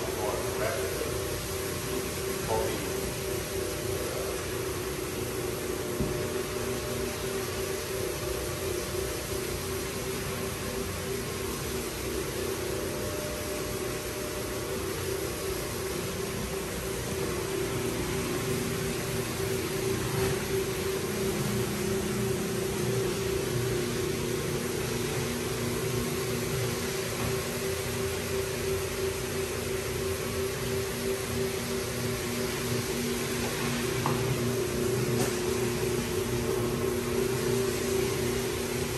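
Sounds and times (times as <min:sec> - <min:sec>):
floor buffer motor humming: 0:00.0 - 0:38.9.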